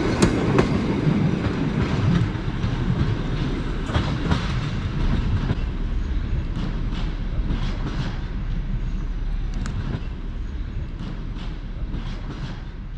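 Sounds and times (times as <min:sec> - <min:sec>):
train wheels clacking over rail joints: 0:00.0 - 0:05.7, 0:06.3 - 0:12.9
low train rumble: 0:00.0 - 0:12.9.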